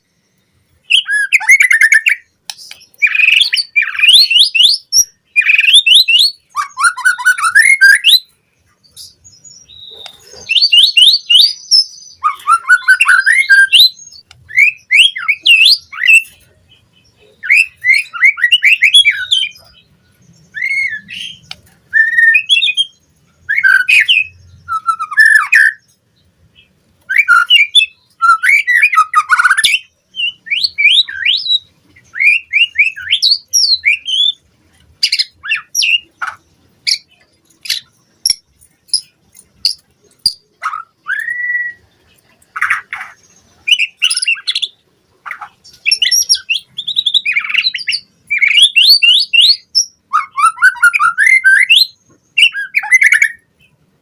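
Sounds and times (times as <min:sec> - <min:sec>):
bird singing whistled phrases: 0:00.8 - 0:08.3, 0:09.4 - 0:16.4, 0:17.3 - 0:19.8, 0:20.5 - 0:25.8, 0:27.1 - 0:34.4, 0:35.0 - 0:36.1, 0:39.0 - 0:41.9, 0:42.6 - 0:44.7, 0:45.8 - 0:53.5.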